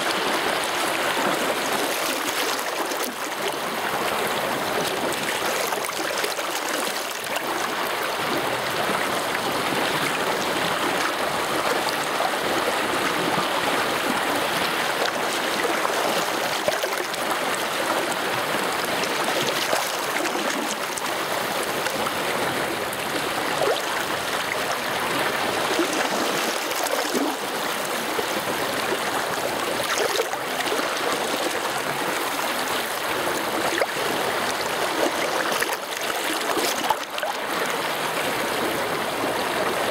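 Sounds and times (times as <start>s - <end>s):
mountain stream rushing and splashing: 0.0s - 39.9s.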